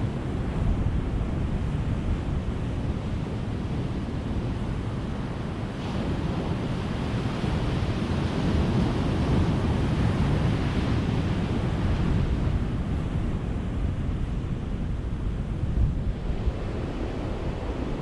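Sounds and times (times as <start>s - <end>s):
ocean surf breaking on beach: 0.0s - 18.0s.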